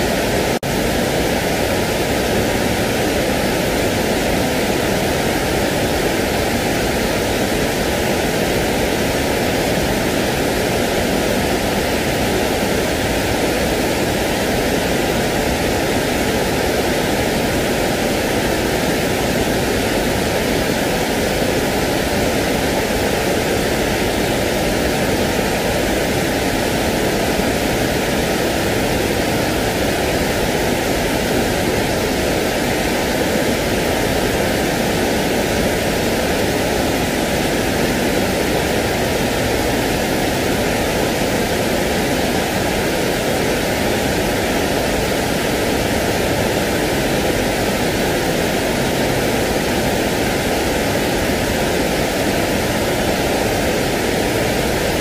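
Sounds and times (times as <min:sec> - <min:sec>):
pink noise hiss: 0:00.0 - 0:55.0.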